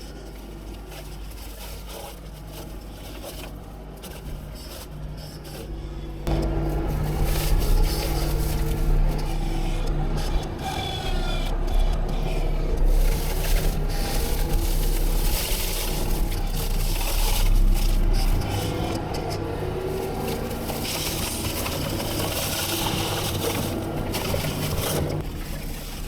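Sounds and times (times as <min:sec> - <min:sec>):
brush and wood crunching: 0:00.0 - 0:26.0
heavy machinery engine: 0:00.0 - 0:26.0.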